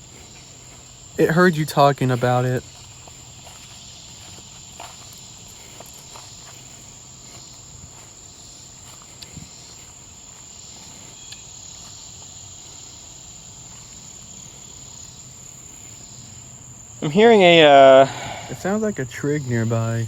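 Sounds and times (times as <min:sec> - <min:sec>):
cricket trilling: 0:00.0 - 0:20.0
faint insects: 0:00.0 - 0:20.0.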